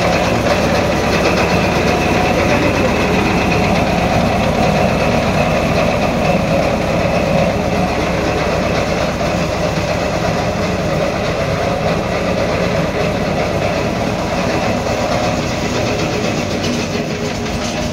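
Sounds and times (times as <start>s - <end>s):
diesel engine with mechanical clatter: 0.0s - 17.9s.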